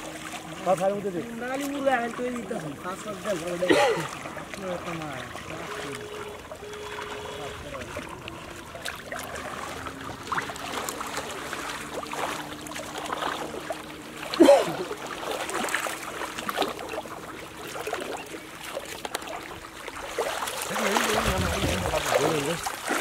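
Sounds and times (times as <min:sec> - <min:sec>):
muddy water sloshing and splashing: 0:00.0 - 0:23.0.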